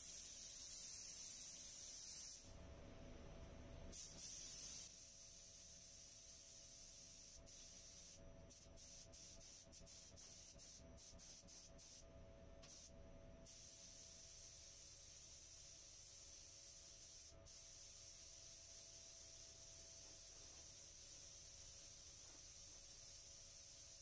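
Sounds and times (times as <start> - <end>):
air spray gun hissing: 0.0 - 2.5, 3.9 - 12.0, 12.6 - 12.9, 13.5 - 24.0
faint steady hum: 0.0 - 24.0.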